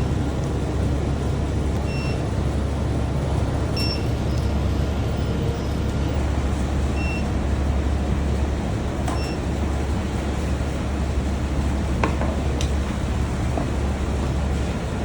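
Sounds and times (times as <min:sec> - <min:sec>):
low furnace hum: 0:00.0 - 0:15.0.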